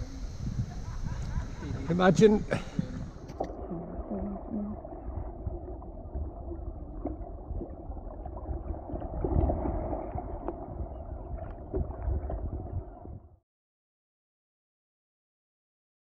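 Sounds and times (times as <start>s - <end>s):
muffled water sloshing: 0.2s - 13.4s.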